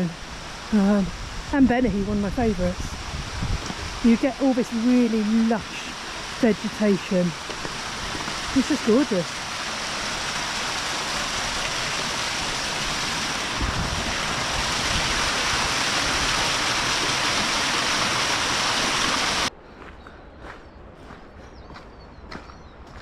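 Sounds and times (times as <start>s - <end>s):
stream water rushing: 0.0s - 19.5s.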